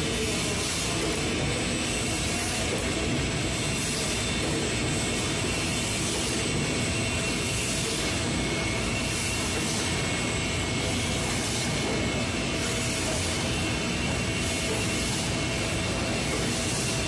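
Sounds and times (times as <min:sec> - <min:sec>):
faint machine whines: 0:00.0 - 0:17.0
processing machinery din: 0:00.0 - 0:17.0.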